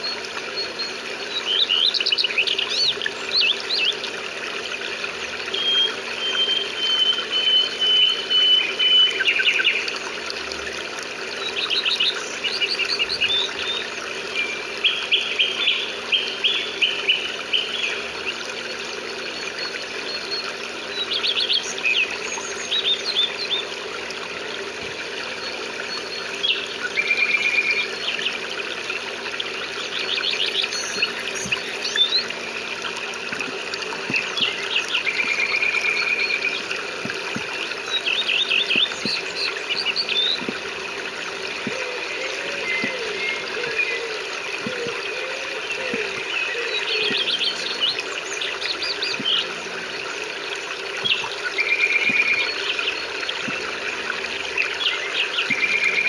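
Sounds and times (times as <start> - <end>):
songbirds singing: 0.0 - 56.0
trickling water: 0.0 - 56.0.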